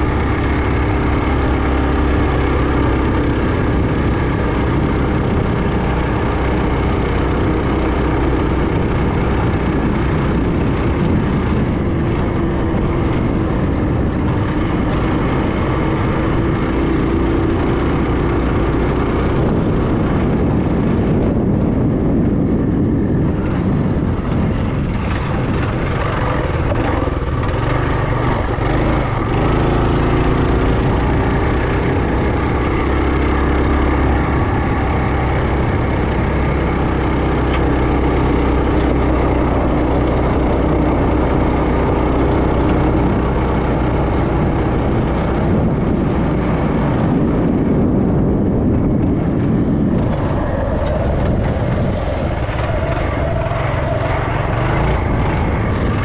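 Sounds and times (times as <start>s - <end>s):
low wind rumble on microphone: 0.0s - 56.0s
minibike engine running: 0.0s - 56.0s.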